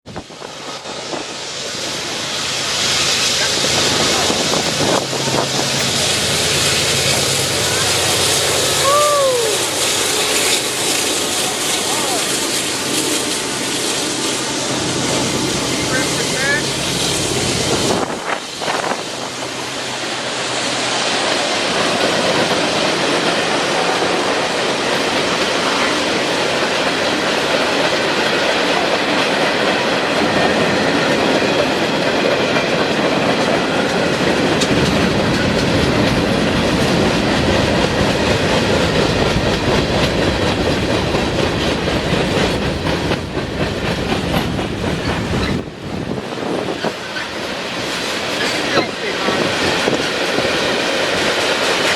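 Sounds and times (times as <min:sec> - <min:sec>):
freight train wheels clacking: 0:00.0 - 0:51.9.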